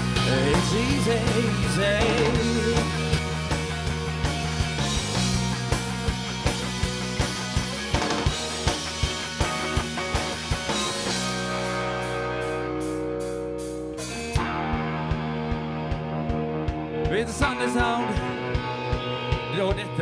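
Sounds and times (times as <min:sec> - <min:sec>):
drum kit beat: 0:00.0 - 0:20.0
rock band playing: 0:00.0 - 0:20.0.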